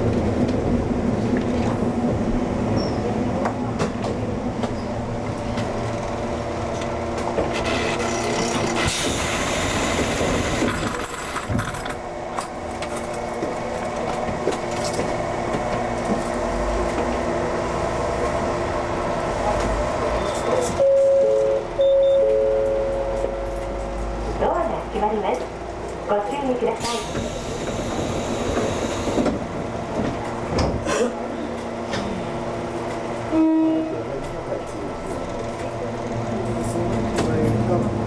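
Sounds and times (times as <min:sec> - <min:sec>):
electric train hum: 0:00.0 - 0:38.0
rail noise: 0:00.0 - 0:38.0.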